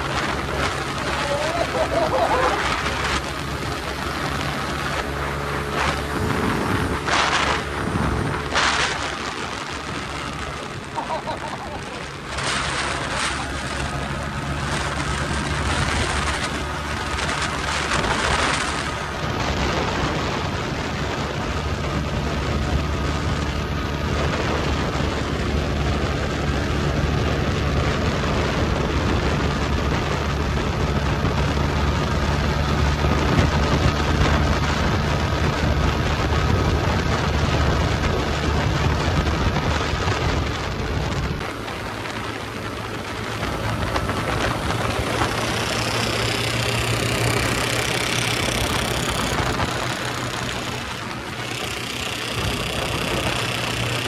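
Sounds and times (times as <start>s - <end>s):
motorcycle engine running: 0.0s - 54.0s
truck passing: 0.0s - 54.0s
wind rushing on microphone: 0.0s - 54.0s.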